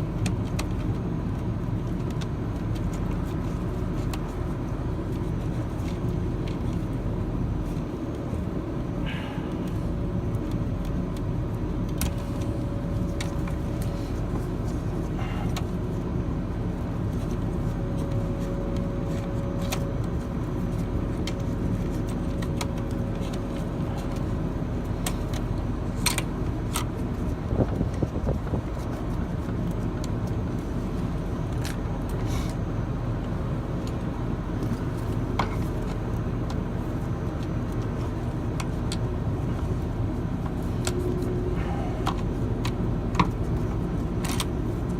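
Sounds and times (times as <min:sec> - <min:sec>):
low mechanical drone: 0:00.0 - 0:44.9.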